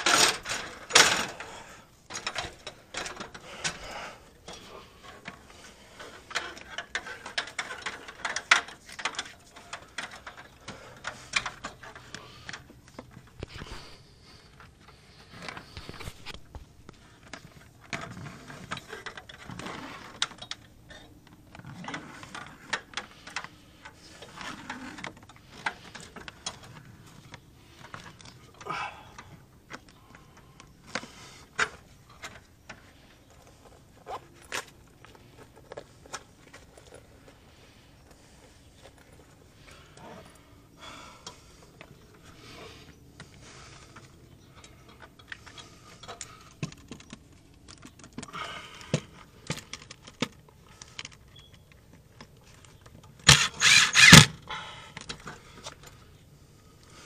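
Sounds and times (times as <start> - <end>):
rustling and scraping: 0.0 - 54.4.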